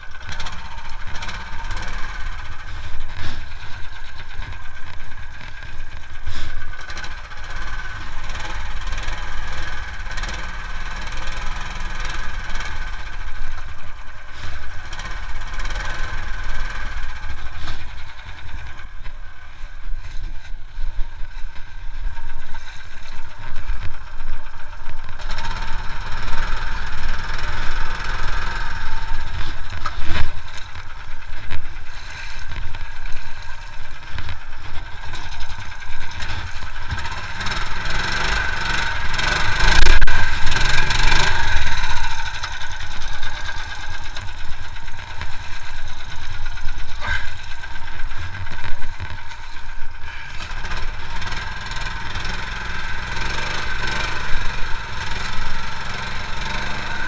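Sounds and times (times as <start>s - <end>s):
minibike engine rumbling unevenly: 0.0s - 57.0s.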